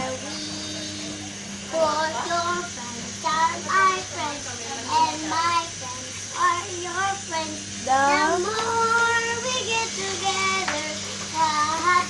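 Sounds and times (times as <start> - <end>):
girl singing: 0.0 - 12.0.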